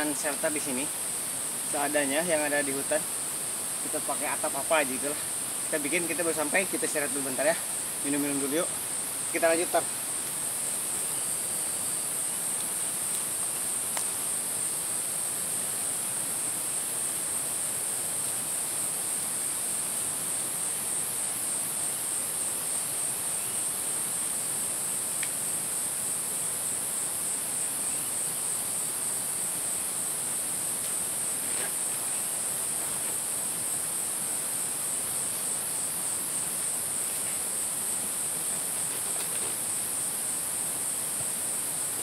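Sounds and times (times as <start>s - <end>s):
high-pitched insect buzz: 0.0s - 42.0s
soft even hiss: 0.0s - 42.0s.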